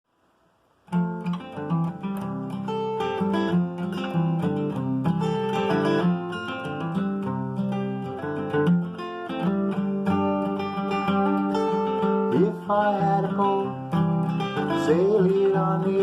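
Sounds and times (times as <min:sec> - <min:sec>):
acoustic guitar playing: 0:00.8 - 0:16.0.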